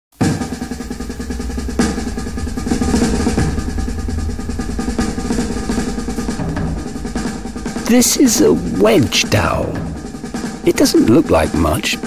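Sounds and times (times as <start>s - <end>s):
drum roll: 0.1s - 12.0s
sustained low notes: 0.2s - 12.0s.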